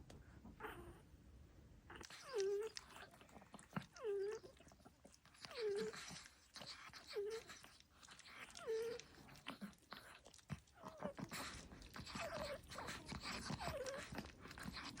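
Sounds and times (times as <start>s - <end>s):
puppy snoring: 1.9s - 15.0s.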